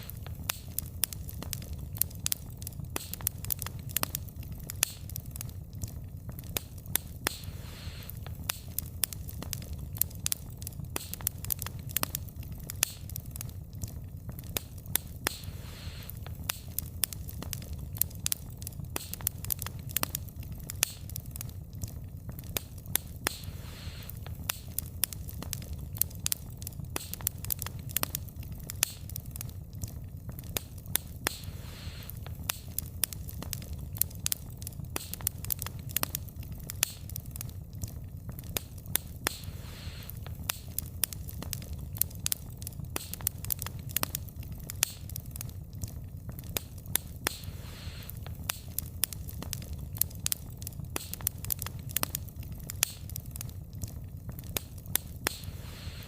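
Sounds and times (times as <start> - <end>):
fire crackling and popping: 0.0 - 56.0
low fire rumble: 0.0 - 56.0
soft hiss: 0.0 - 56.0.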